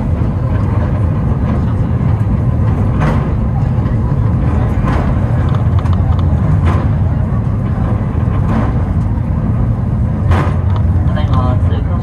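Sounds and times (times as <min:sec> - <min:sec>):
cable car low rumble: 0:00.0 - 0:12.0.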